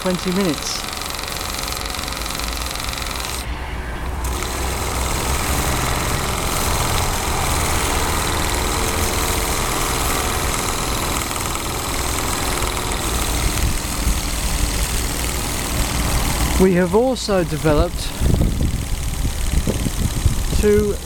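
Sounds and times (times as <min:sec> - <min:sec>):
exhaust steam hissing: 0:00.0 - 0:21.0
steam engine running: 0:00.0 - 0:21.0.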